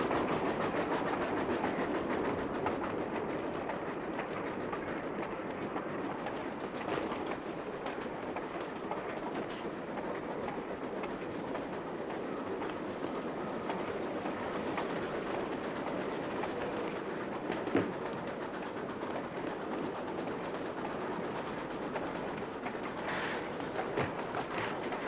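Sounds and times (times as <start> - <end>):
train cars rumbling: 0.0 - 25.0
wheels clacking over rails: 0.0 - 25.0.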